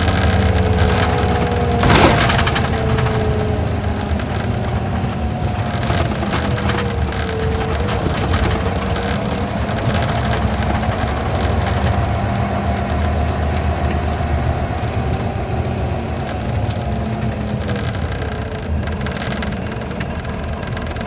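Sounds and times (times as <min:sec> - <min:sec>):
bus engine rumbling: 0:00.0 - 0:21.0
faint engine whine: 0:00.0 - 0:21.0.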